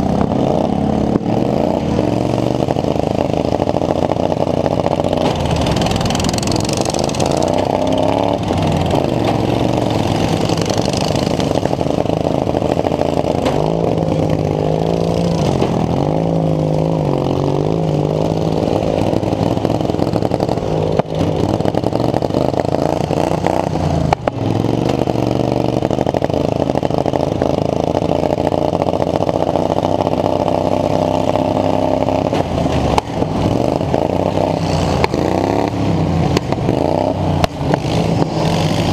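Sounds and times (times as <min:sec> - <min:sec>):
lawn mower engine revving: 0:00.0 - 0:38.9.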